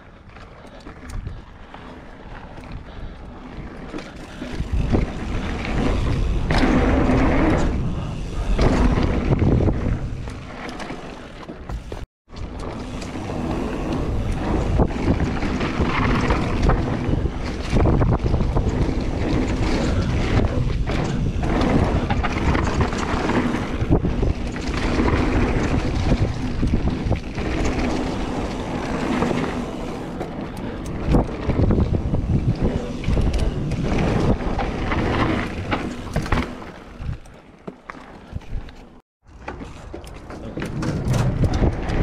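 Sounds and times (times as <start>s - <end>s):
mountain bike rumbling and rattling: 0.0s - 42.0s
wind buffeting microphone: 0.8s - 10.6s, 11.7s - 37.3s, 40.4s - 42.0s.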